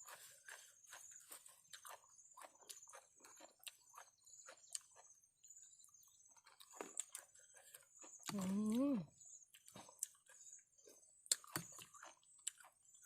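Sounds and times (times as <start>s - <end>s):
person chewing with mouth clicks: 0.0s - 5.2s, 6.3s - 13.0s.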